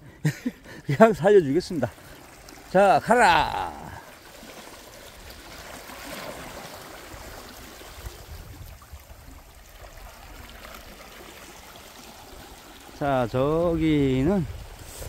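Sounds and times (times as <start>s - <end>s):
water lapping around rocks: 0.0s - 15.0s.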